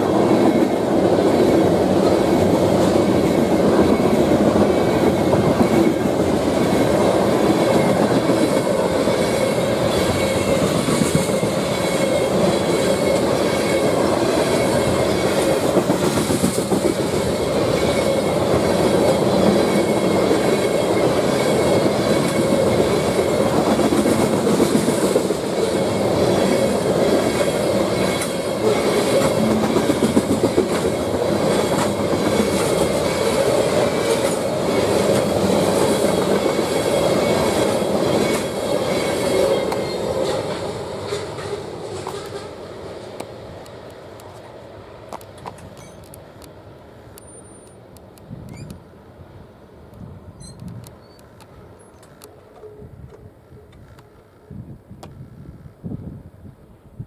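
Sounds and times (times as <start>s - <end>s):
wheels clacking over rail joints: 0.0s - 48.8s
train wheels rumbling on rail: 0.0s - 57.0s.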